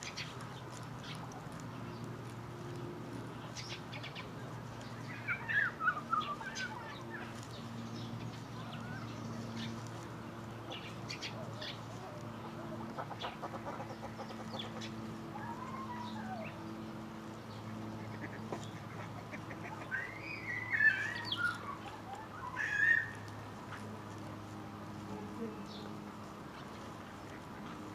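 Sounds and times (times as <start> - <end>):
coots calling: 3.4 - 27.9.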